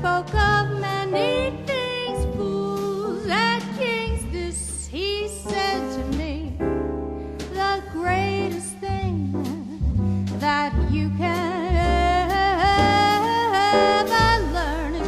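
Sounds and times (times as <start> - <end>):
woman singing: 0.0 - 6.6, 7.5 - 15.0
drums: 0.0 - 15.0
upright bass: 0.0 - 15.0.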